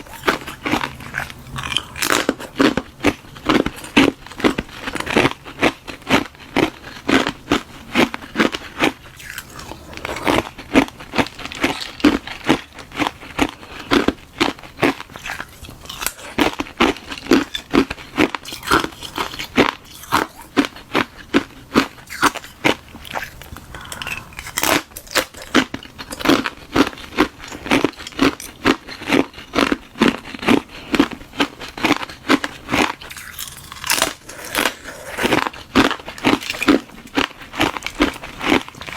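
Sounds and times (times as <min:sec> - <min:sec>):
ice crunching while chewing: 0:00.0 - 0:38.9.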